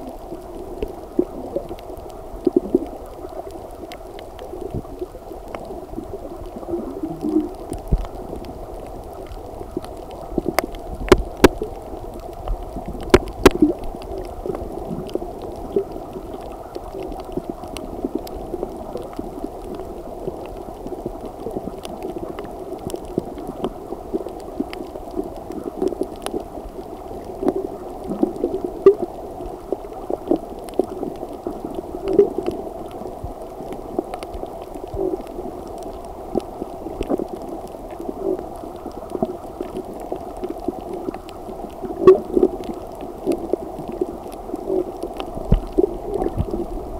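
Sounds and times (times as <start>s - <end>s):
muffled underwater rumble: 0.0s - 46.9s
water gurgling: 0.0s - 46.9s
sharp clicks underwater: 6.4s - 46.9s.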